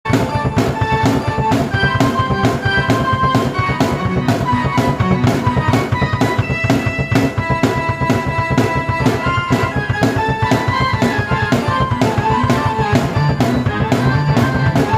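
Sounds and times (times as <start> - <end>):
drum kit beat: 0.0 - 14.9
keyboard melody: 0.0 - 14.9.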